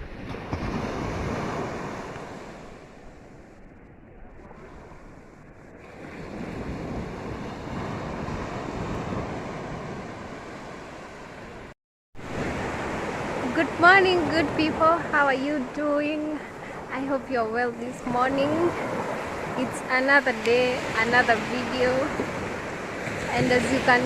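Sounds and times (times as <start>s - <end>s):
ocean waves washing ashore: 0.0s - 24.0s
wind rumbling on microphone: 0.0s - 24.0s.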